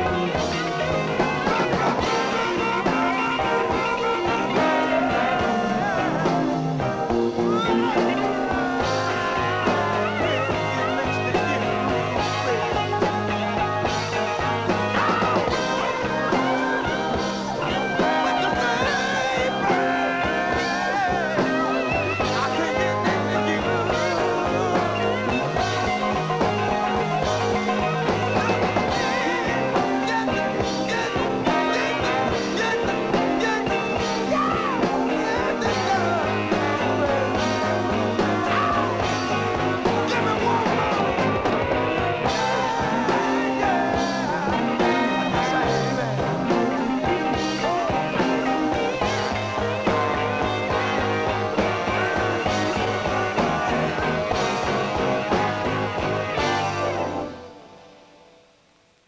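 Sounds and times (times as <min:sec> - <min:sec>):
bass guitar: 0:00.0 - 0:58.0
drums: 0:00.0 - 0:59.0
electric guitar: 0:00.0 - 0:59.0
horn section: 0:00.0 - 0:59.0.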